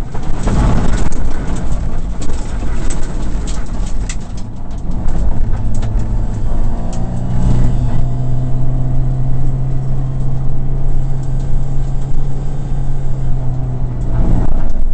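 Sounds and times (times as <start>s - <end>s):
car engine running: 0.0s - 14.9s
road and tyre noise: 0.0s - 14.9s.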